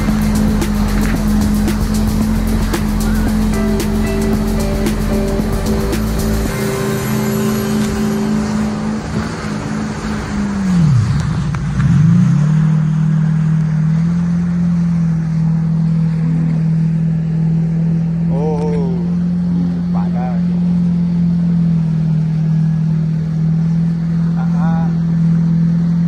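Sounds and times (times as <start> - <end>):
jet ski engine running: 0.0 - 26.0.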